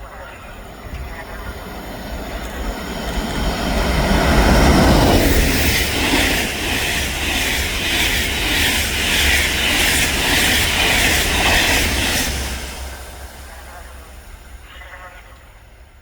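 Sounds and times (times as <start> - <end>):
train passing: 0.0 - 16.0
train wheels beating: 0.8 - 14.6.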